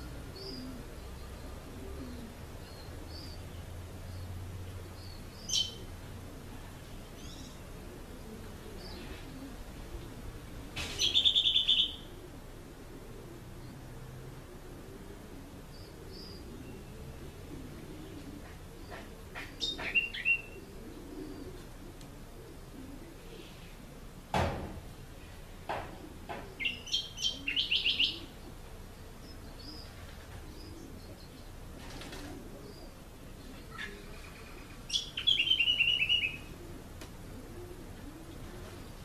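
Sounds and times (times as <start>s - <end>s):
songbird singing: 0.0s - 12.3s, 13.1s - 23.8s, 25.2s - 31.8s, 32.5s - 39.0s.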